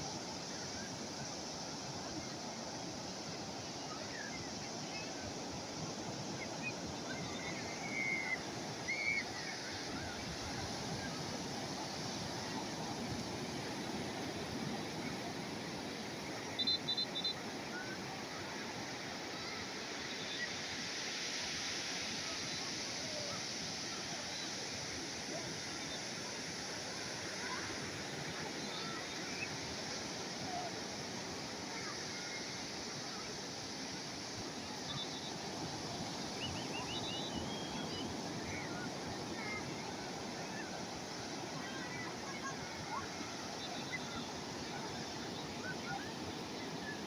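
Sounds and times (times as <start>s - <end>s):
calm sea waves: 0.0s - 47.0s.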